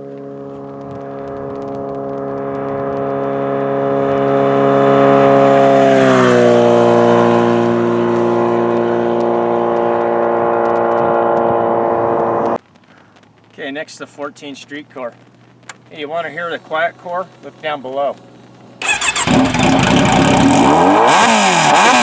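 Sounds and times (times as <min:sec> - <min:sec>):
motorcycle exhaust passing: 0:00.0 - 0:12.6, 0:15.4 - 0:22.0.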